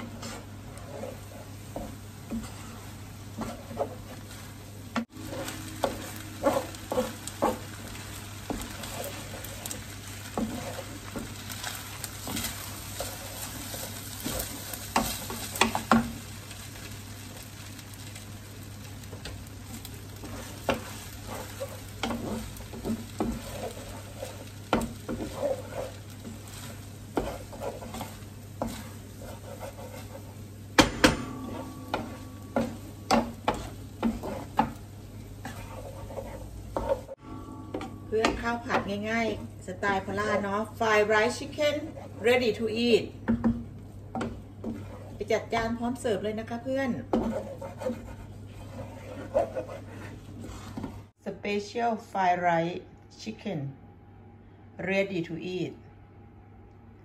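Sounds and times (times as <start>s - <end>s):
wooden spatula scraping a pan: 0.0s - 16.3s, 19.0s - 51.2s
food sizzling: 0.0s - 51.2s.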